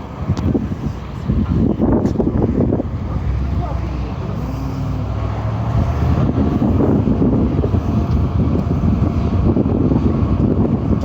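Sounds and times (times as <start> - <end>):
low engine rumble: 0.0 - 11.0
wind buffeting microphone: 0.0 - 11.0.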